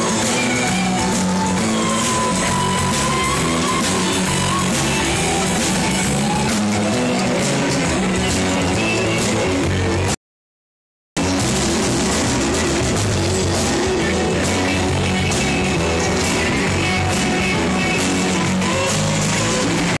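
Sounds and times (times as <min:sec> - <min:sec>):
loud rock music with guitar: 0:00.0 - 0:10.2, 0:11.2 - 0:20.0.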